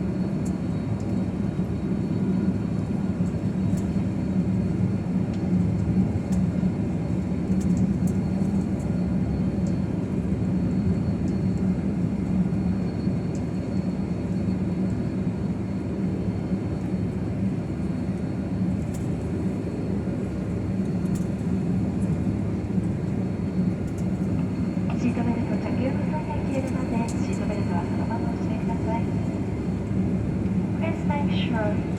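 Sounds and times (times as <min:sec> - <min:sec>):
airliner cabin rumble: 0:00.0 - 0:31.9
jet engines and air conditioning humming: 0:00.0 - 0:31.9.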